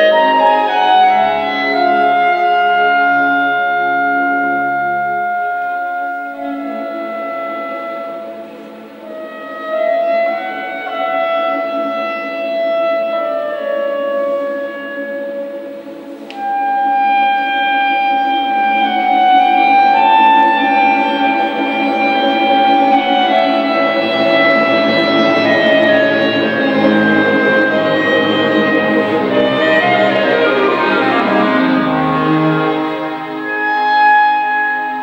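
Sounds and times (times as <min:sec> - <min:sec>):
clarinet melody: 0:00.0 - 0:35.0
string orchestra accompaniment: 0:00.0 - 0:35.0.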